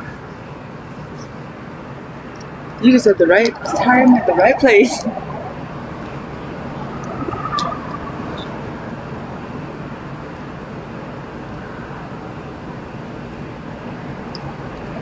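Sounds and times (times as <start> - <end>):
traffic rumble: 2.1 - 15.0.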